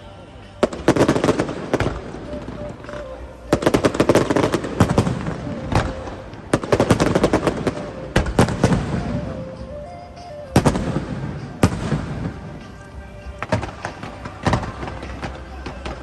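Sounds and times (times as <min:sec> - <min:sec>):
faint melody of held notes: 0:00.0 - 0:16.0
fireworks bangs: 0:00.6 - 0:09.9, 0:10.5 - 0:16.0.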